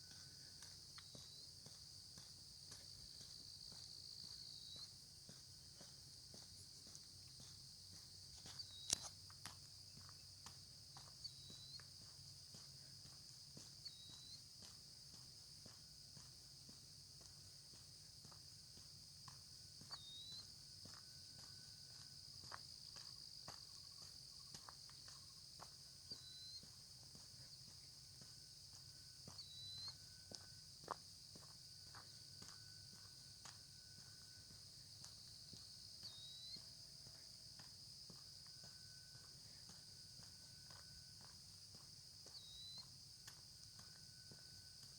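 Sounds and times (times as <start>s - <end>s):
crunching footsteps: 0.0s - 44.9s
high-pitched insect chorus: 0.0s - 44.9s.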